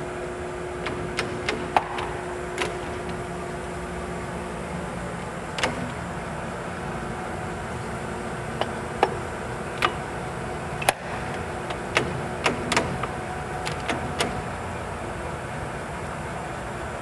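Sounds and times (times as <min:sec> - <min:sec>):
steady machine noise: 0:00.0 - 0:17.0
lathe levers clicking and clunking: 0:00.7 - 0:14.8.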